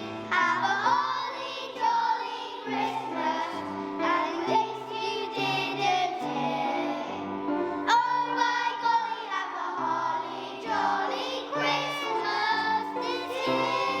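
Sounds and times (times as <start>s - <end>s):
song with high singing voices: 0.0s - 14.0s.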